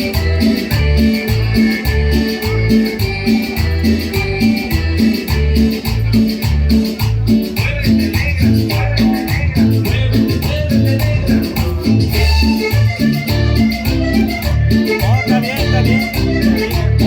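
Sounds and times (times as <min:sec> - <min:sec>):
bass notes: 0:00.0 - 0:17.0
keyboard: 0:00.0 - 0:17.0
maracas shaking: 0:00.0 - 0:17.0
tropical dance band playing: 0:00.0 - 0:17.0.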